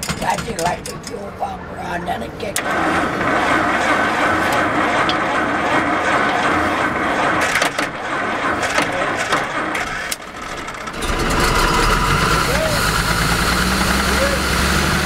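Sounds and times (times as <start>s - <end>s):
car engine running with pops: 2.6s - 15.0s.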